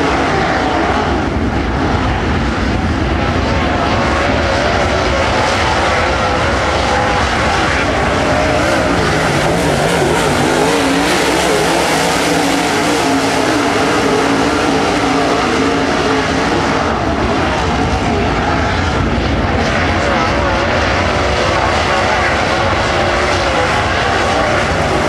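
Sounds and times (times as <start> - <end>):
race car engines roaring: 0.0 - 25.0.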